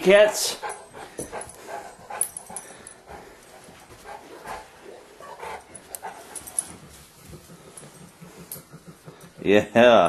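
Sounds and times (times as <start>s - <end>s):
dog whimpering and panting: 0.0s - 10.0s.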